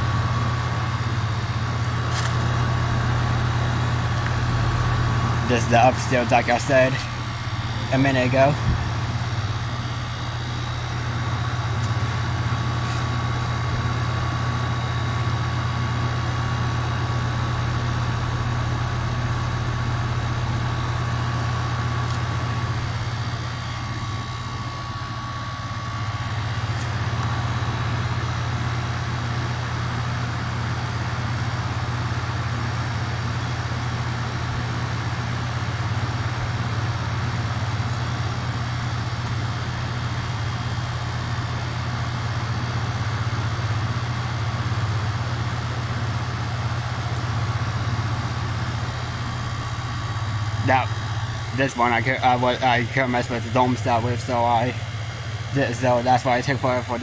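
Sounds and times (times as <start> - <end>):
compressor hum: 0.0 - 57.0
condenser fan rushing: 0.0 - 57.0.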